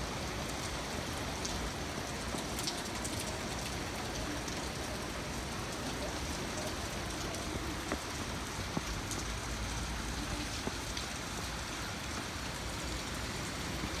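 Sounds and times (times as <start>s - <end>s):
heavy rain on roofs and pavement: 0.0s - 14.0s.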